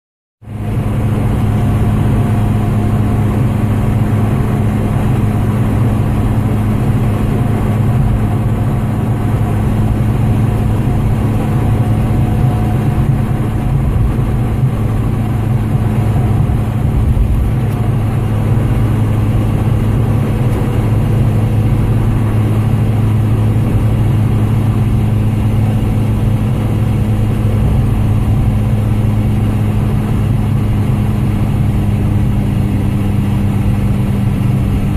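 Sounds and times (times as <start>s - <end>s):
car engine running: 0.4s - 34.9s.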